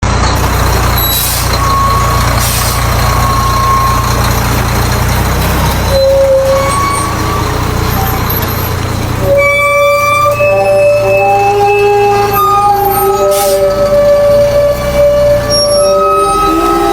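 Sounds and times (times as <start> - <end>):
truck diesel engine droning: 0.0 - 16.9.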